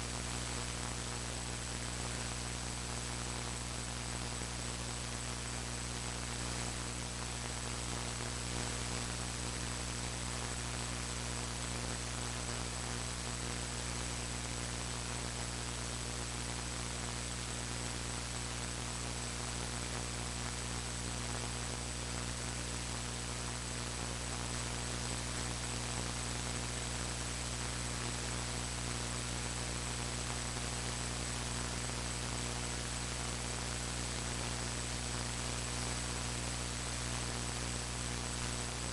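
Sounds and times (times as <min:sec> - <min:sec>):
electrical mains hum: 0:00.0 - 0:38.9
static hiss: 0:00.0 - 0:38.9.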